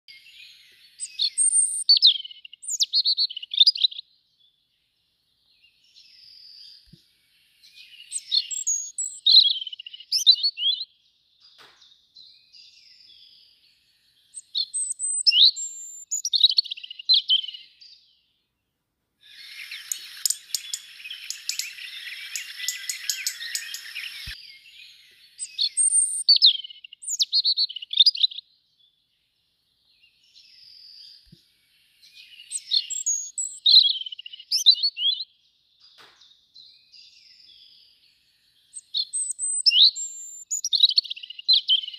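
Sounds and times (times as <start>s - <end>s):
robin song: 0.1s - 41.9s.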